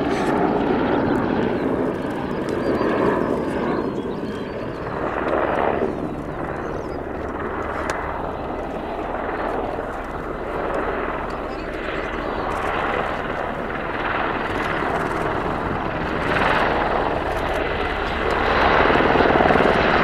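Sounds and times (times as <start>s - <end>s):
helicopter in flight: 0.0s - 20.0s.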